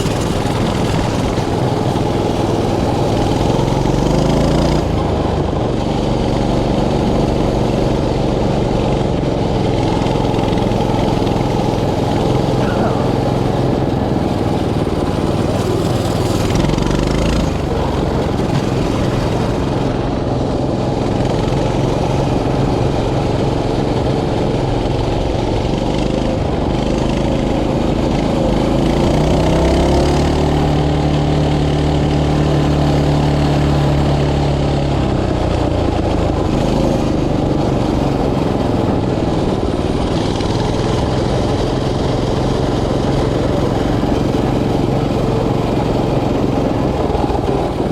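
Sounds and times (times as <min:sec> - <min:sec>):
mini bike engine running: 0:00.0 - 0:47.9.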